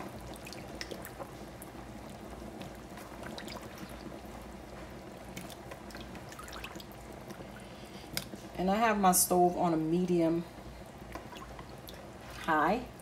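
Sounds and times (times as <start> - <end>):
soup boiling and bubbling: 0.0 - 9.0, 9.9 - 13.0.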